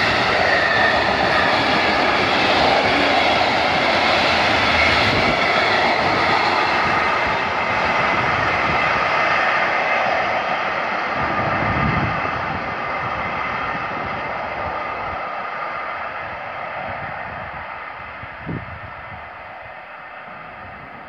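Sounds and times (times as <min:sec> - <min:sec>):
train rolling down the line: 0:00.0 - 0:21.0.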